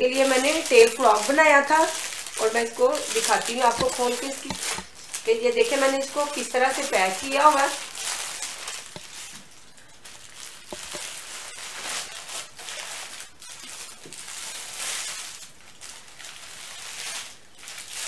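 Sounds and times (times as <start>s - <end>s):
paper wrapping rustling and crinkling: 0.0s - 18.0s.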